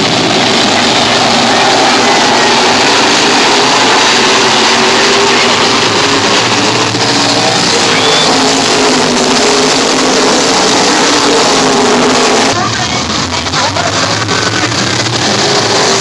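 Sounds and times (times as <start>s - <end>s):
race car engines roaring: 0.0s - 16.0s.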